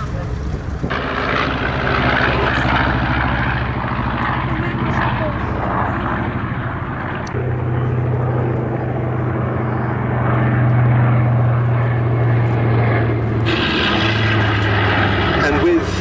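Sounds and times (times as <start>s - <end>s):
propeller plane engines droning: 0.0s - 16.0s.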